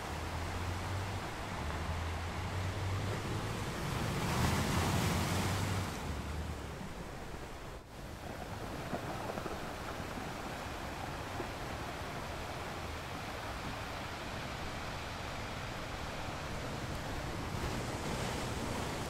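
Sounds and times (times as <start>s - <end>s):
ocean surf washing ashore: 0.0s - 19.0s.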